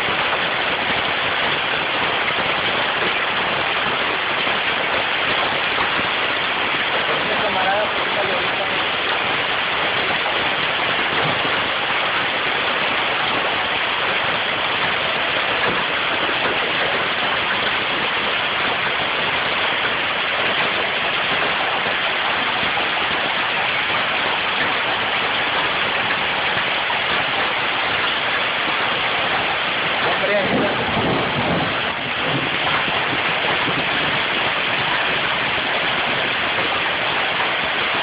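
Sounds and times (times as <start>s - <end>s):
hail and rain falling hard: 0.0s - 38.0s.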